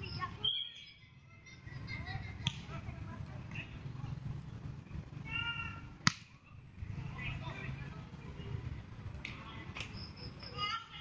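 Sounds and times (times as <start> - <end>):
faint distant voices: 0.0 - 11.0.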